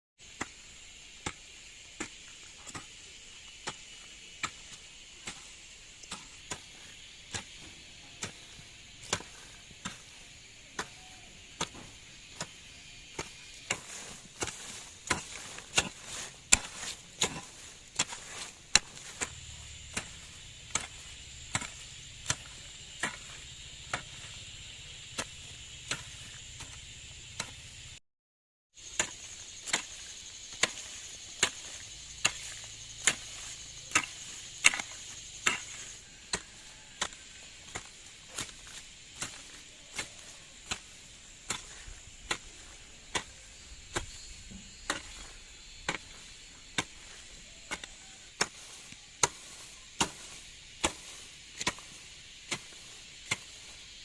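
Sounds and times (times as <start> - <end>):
insects buzzing: 0.2 - 28.0, 28.7 - 54.0
hand tool chopping: 0.3 - 27.8, 28.8 - 53.8.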